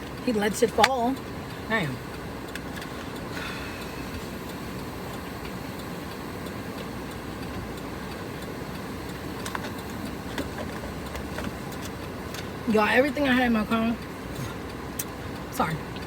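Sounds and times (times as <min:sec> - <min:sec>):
car engine running: 0:00.0 - 0:16.0
light clicks and ticks: 0:00.0 - 0:16.0.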